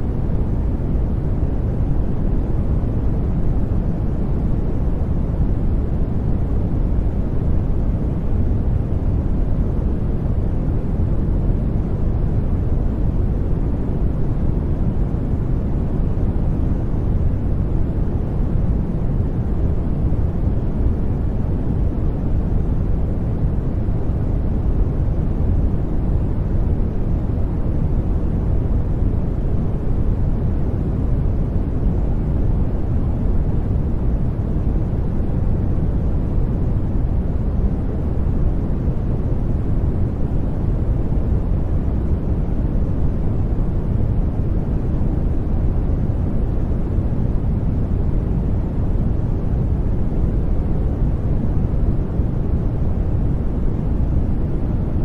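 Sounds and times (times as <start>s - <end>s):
brown noise rumble: 0.0s - 55.0s.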